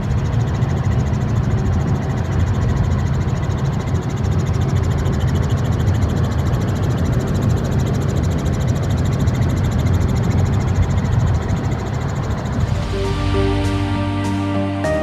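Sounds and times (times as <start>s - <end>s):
helicopter engine and rotor rumble: 0.0s - 14.8s.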